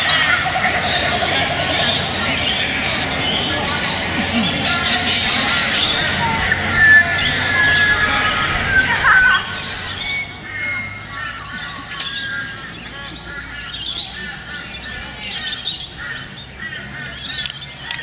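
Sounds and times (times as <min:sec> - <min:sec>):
birds chattering calls: 0:00.0 - 0:18.0.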